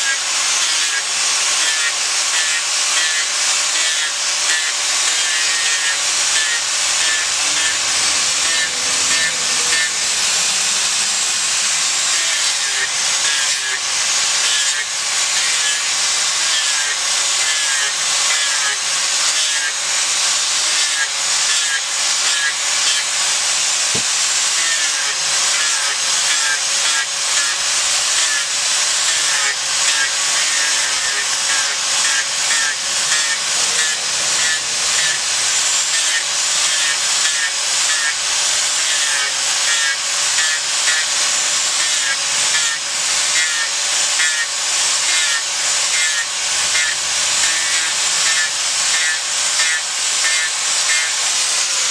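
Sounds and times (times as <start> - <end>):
angle grinder grinding wood: 0.0 - 51.9.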